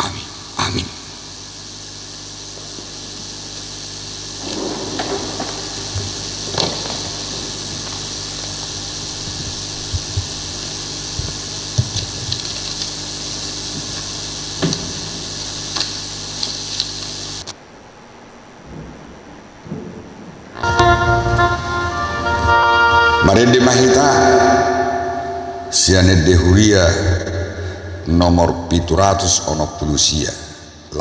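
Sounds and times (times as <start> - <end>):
sound system hiss and hum: 0.0 - 31.0.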